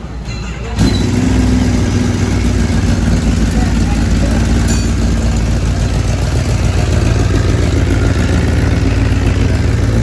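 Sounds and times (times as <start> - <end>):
motorcycle engine running: 0.8 - 10.0.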